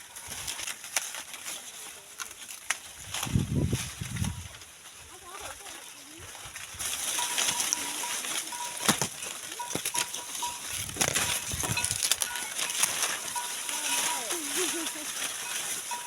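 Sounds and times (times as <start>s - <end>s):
dry maize leaves rustling: 0.0s - 16.0s.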